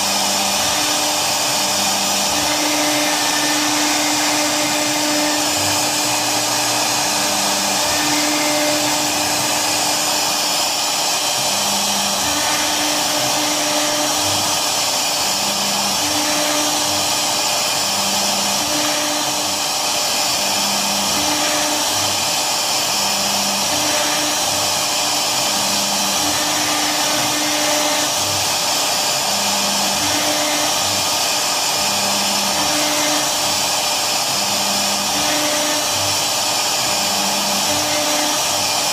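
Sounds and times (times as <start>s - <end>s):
low hum of cutting head: 0.0s - 38.9s
router spindle whirring hiss: 0.0s - 38.9s.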